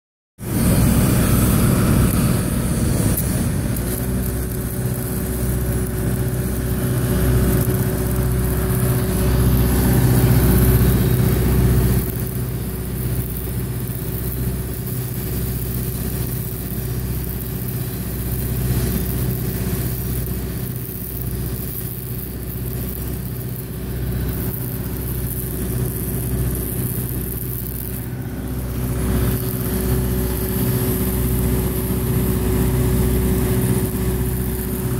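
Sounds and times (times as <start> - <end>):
engine droning: 0.4 - 34.9
welding arc crackling and hissing: 0.4 - 34.9.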